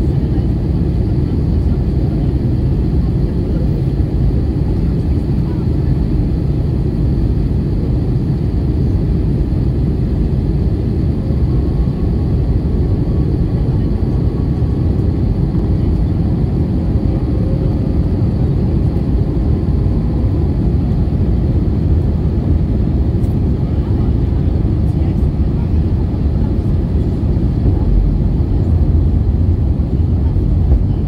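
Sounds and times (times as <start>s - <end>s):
airliner cabin airflow and engine: 0.0s - 31.0s.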